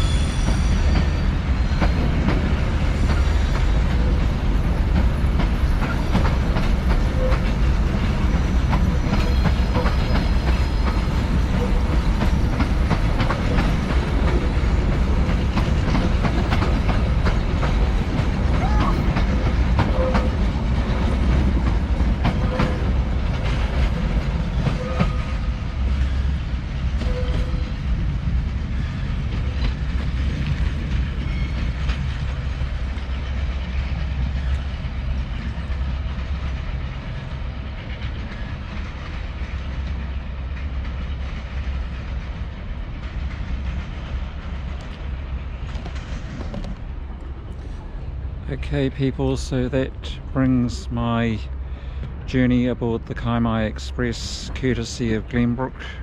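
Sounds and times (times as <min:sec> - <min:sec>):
train rumbling along track: 0:00.0 - 0:56.0
wheels clicking over rail joints: 0:01.7 - 0:47.4.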